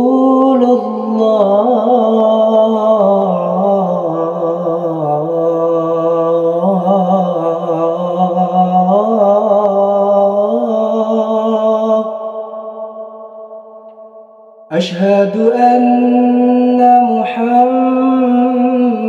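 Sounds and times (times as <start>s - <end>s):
man singing call to prayer: 0.0s - 13.2s, 14.7s - 19.0s.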